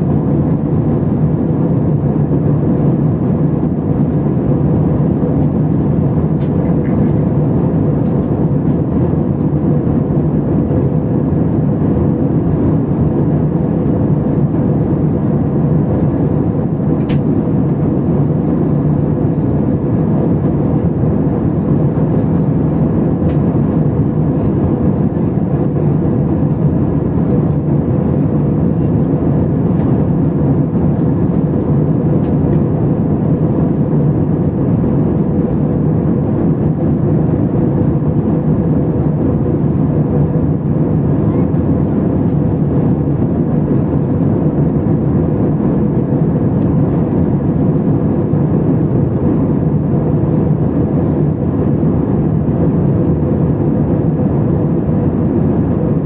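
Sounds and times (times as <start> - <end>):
jet engine and airflow roar: 0.0 - 56.0.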